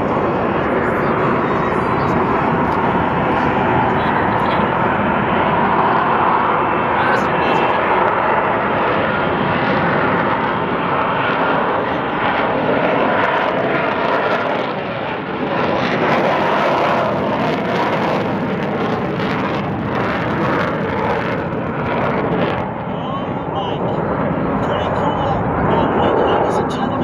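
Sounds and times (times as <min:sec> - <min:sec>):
jet engine in flight: 0:00.0 - 0:27.0.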